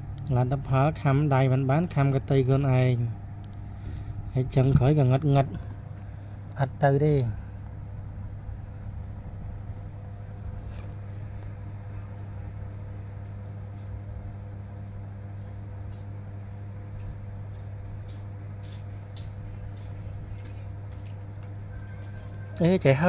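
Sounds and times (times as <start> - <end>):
steady low hum with tones: 0.0 - 23.0.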